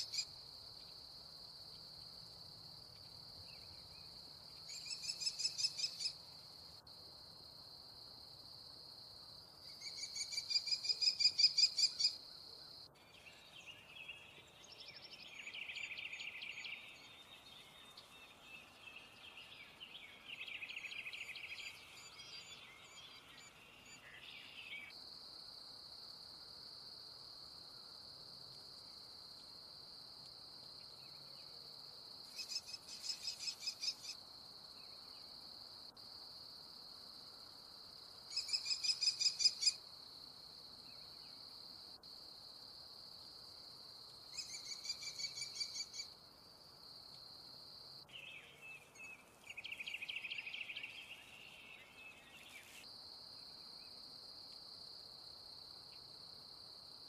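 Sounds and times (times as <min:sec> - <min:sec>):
insect trill: 0:00.0 - 0:57.0.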